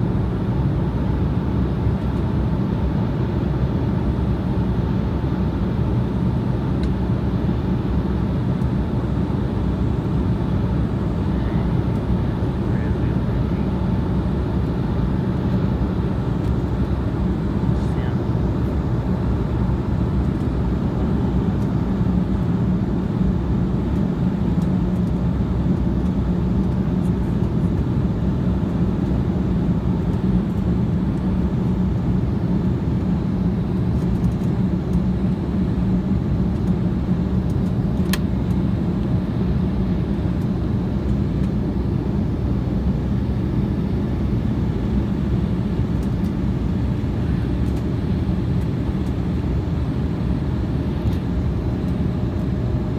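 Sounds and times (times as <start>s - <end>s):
airliner cabin engine drone: 0.0s - 52.9s.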